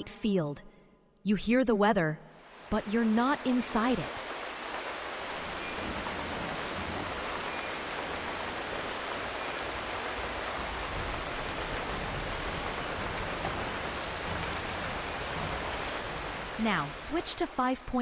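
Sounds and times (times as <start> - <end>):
steady rainfall: 2.4 - 18.0.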